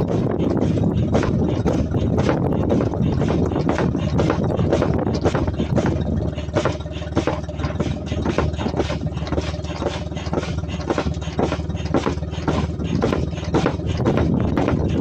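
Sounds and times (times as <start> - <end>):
foot pump rush of air: 0.0 - 15.0
steady low hum: 0.0 - 15.0.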